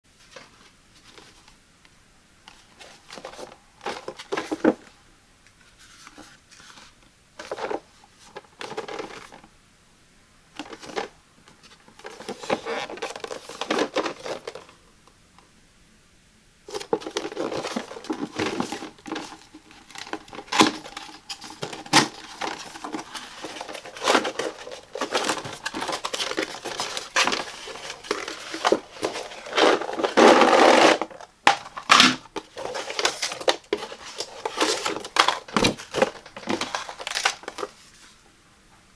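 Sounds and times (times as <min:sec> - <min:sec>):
cardboard rustling and scraping: 0:02.5 - 0:05.0, 0:05.6 - 0:09.5, 0:10.6 - 0:14.8, 0:16.7 - 0:38.2.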